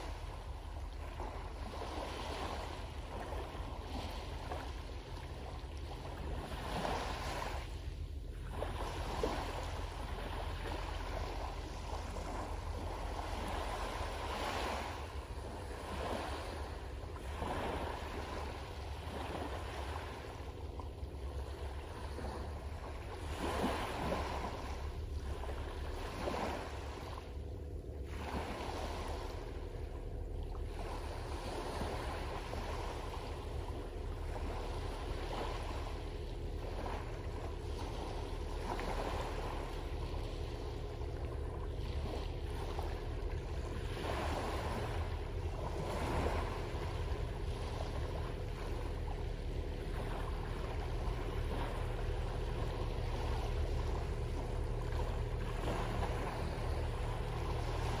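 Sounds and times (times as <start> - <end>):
boat engine drone: 0.0 - 58.0
small waves on pebbly beach: 0.0 - 58.0.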